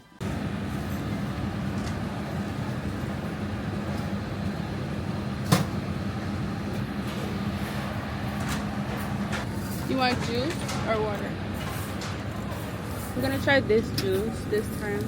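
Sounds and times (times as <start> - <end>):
low mechanical drone: 0.2 - 15.0.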